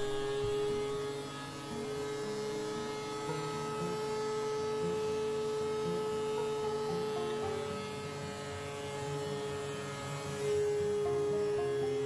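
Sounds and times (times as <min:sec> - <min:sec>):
thickness planer motor whining: 0:00.0 - 0:12.0.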